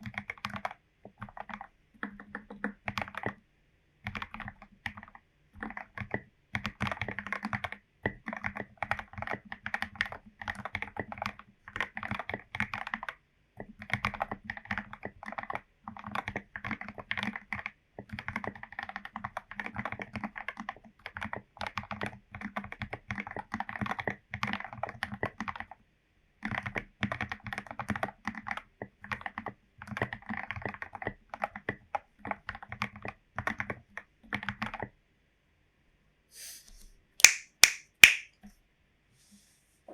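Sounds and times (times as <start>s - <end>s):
fast typing on mechanical keyboard: 0.0s - 3.4s, 4.0s - 25.8s, 26.4s - 35.0s.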